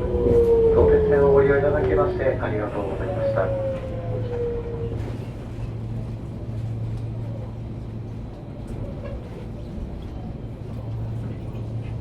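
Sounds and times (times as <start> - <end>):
train electric hum: 0.0 - 12.0.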